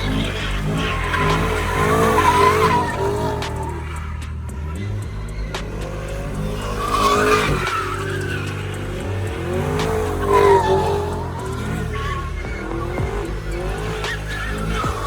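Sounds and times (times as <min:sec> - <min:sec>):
car tires squealing: 0:00.0 - 0:15.0
low engine rumble: 0:00.0 - 0:15.0.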